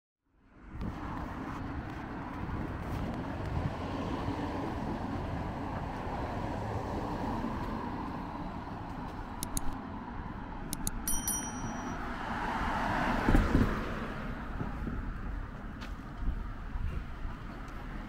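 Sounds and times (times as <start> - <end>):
cars passing on a road: 0.2 - 18.0.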